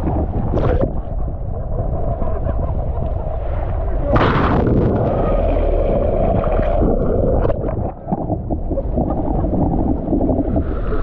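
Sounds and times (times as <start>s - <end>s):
muffled underwater rushing: 0.0s - 11.0s.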